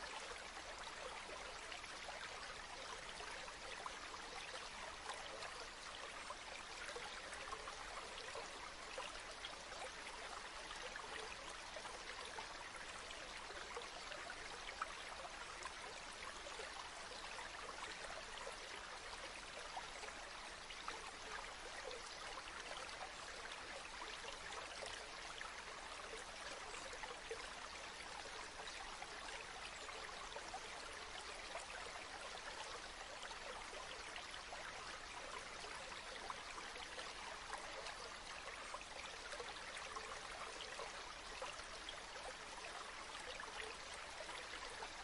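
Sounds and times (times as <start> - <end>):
stream water babbling: 0.0 - 45.0.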